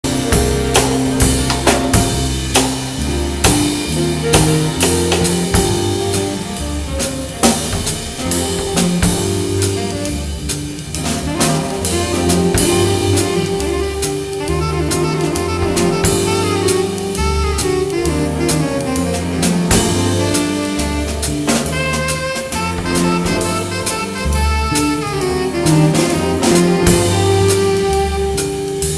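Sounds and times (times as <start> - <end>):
saxophone: 0.0 - 28.9
swing drum beat: 0.0 - 28.9
walking bass line: 0.0 - 28.9.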